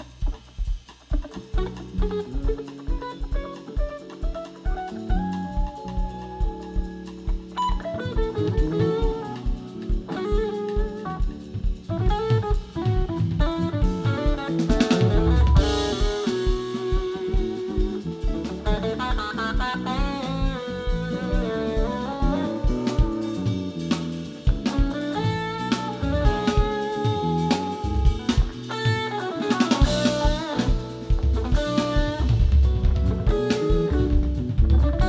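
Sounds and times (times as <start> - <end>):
bass: 0.0 - 35.0
drum kit with kick drum: 0.0 - 35.0
electric guitar lines: 0.0 - 35.0
keyboards: 0.0 - 35.0.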